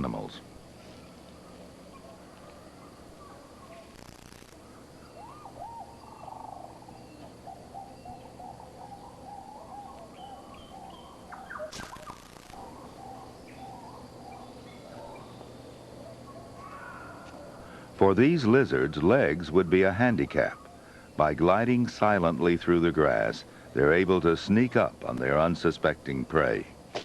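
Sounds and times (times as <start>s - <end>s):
birds chirping and calling: 0.0s - 26.9s.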